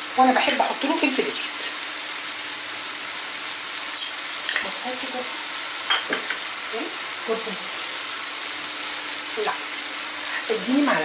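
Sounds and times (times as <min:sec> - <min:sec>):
water boiling in a pot: 0:00.0 - 0:11.0.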